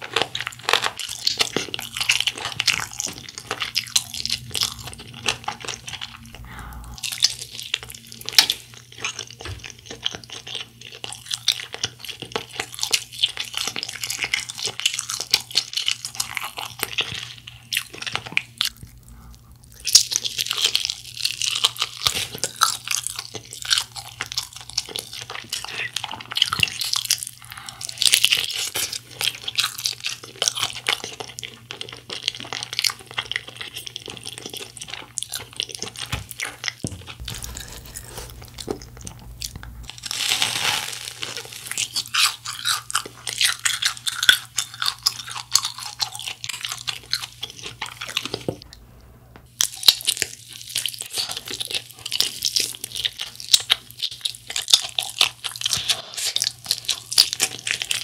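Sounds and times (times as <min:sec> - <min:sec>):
crunching bites and chewing: 0:00.0 - 0:48.6, 0:49.5 - 0:58.0.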